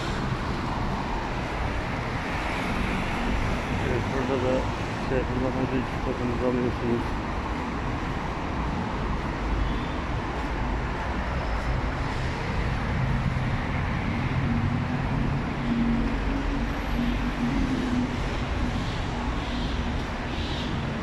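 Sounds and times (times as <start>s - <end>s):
city road traffic: 0.0s - 21.0s.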